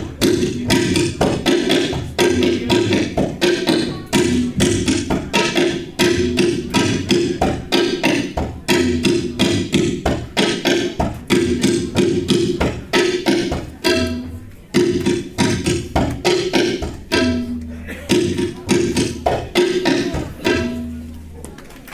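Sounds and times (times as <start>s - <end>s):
tabla ensemble playing fast: 0.0s - 21.4s.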